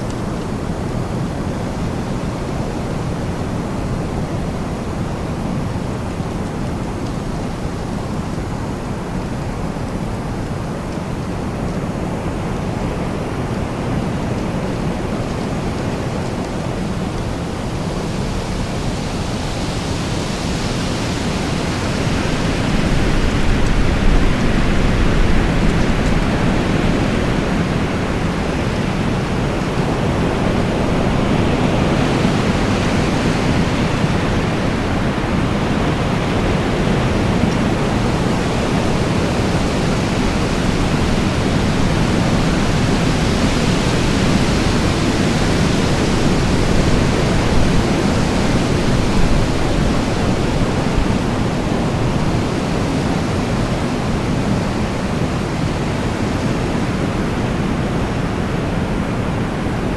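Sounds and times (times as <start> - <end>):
wind blowing: 0.0 - 59.9.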